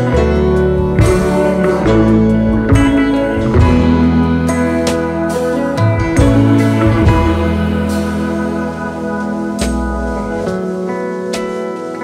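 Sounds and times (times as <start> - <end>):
guitar-led instrumental music: 0.0 - 12.0
held bass notes: 0.0 - 12.0.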